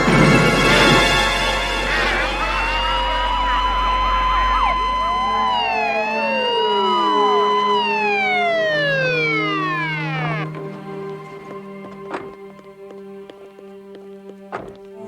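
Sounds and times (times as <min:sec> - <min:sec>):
police sirens wailing: 0:00.0 - 0:14.9.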